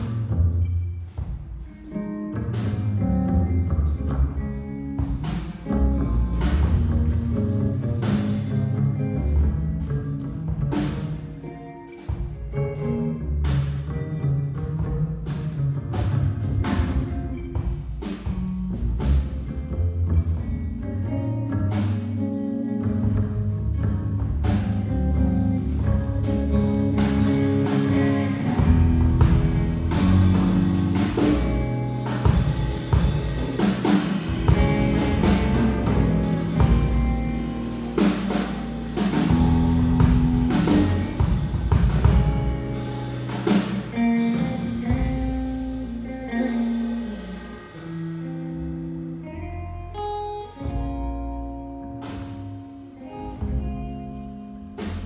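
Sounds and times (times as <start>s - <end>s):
drum kit: 0.0s - 55.0s
electric guitar: 0.0s - 55.0s
upright bass: 0.0s - 55.0s.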